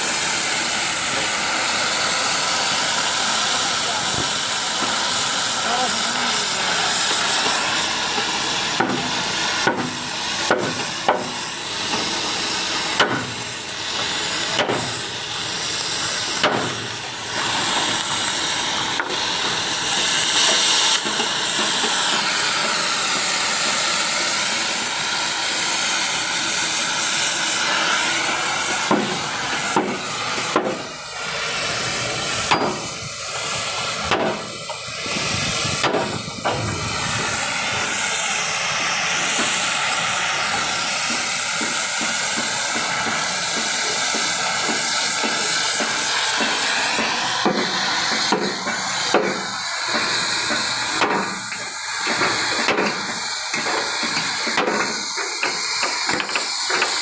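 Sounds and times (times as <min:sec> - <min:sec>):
steady loud hiss: 0:00.0 - 0:57.0.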